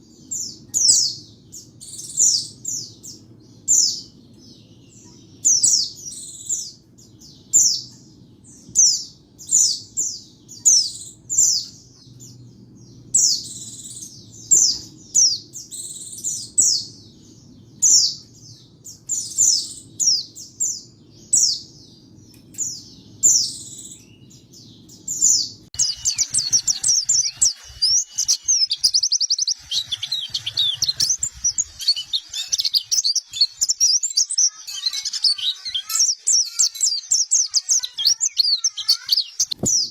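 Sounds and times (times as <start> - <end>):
bird chirping: 0.0 - 39.9
rapid bird twittering song: 0.0 - 39.9.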